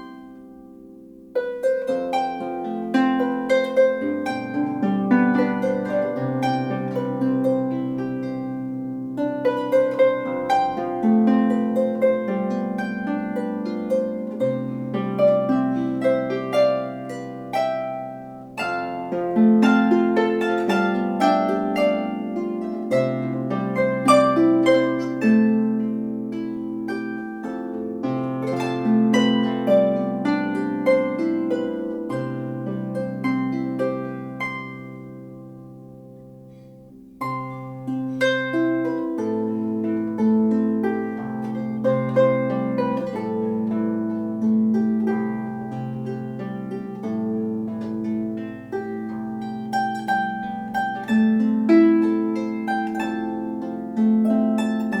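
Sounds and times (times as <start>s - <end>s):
harp melody: 0.0s - 55.0s.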